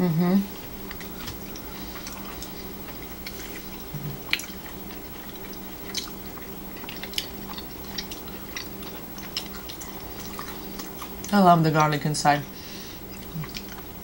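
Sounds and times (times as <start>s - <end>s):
steady low hum: 0.0s - 14.0s
chewing with wet mouth clicks: 0.8s - 12.2s, 13.0s - 14.0s.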